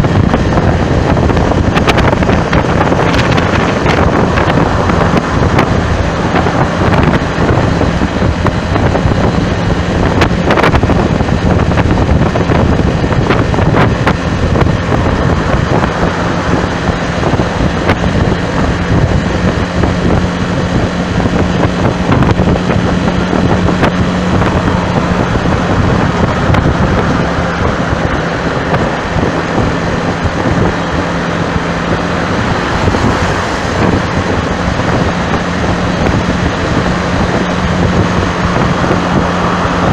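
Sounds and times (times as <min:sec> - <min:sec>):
vehicle traffic: 0:00.0 - 0:39.9
wind buffeting microphone: 0:00.0 - 0:39.9.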